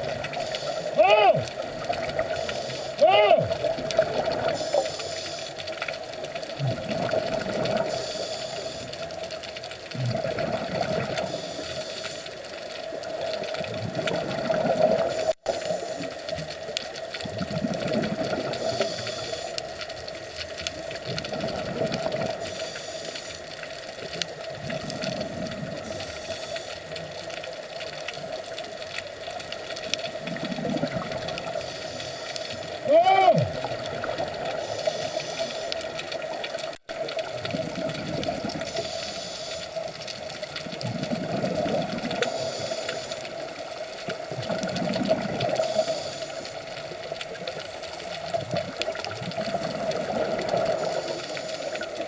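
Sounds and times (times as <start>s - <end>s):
muffled water noise: 0.0s - 52.0s
underwater mechanical hum: 0.0s - 52.0s.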